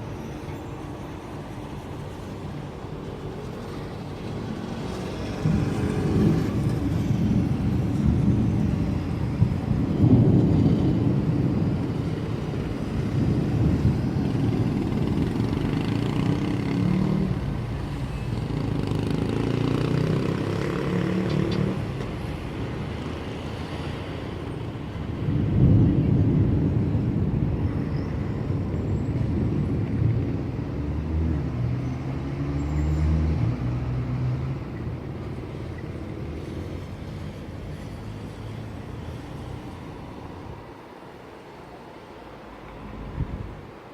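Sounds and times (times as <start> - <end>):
vehicles passing: 0.0 - 43.9.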